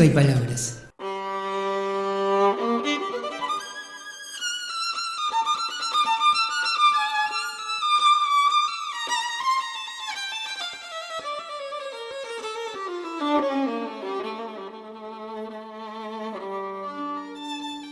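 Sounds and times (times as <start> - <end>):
violin melody: 1.0 - 17.9.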